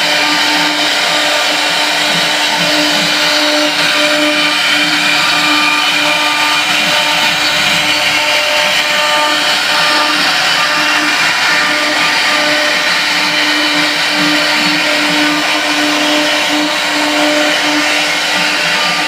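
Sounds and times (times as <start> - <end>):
router whirring hiss: 0.0 - 19.0.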